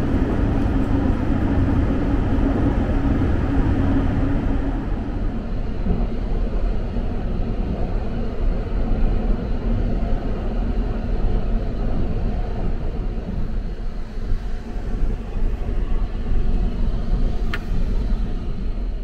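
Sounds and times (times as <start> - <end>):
train running low rumble: 0.0 - 19.0.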